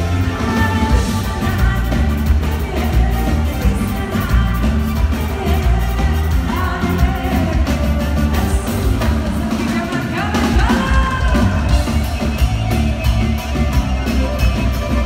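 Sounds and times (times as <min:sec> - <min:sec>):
woman singing: 0:00.0 - 0:14.4
live band with bass and drums: 0:00.0 - 0:15.0.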